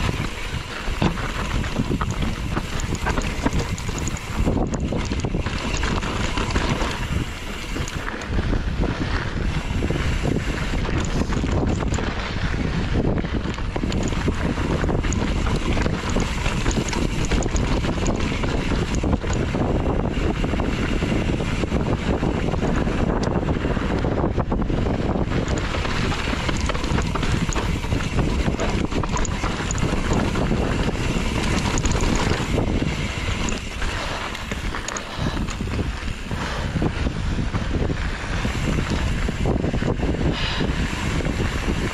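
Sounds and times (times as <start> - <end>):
bike clicks and rattles: 0.0 - 41.9
tyres rumbling on trail: 0.0 - 41.9
wind buffeting microphone: 0.0 - 41.9.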